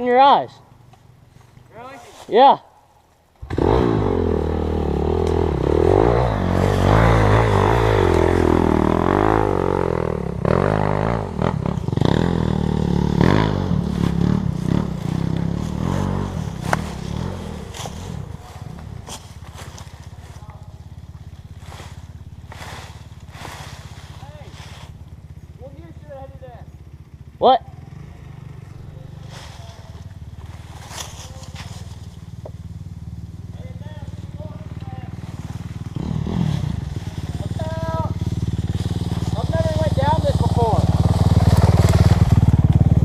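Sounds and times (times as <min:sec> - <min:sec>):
dirt bike engine revving: 0:03.4 - 0:43.0.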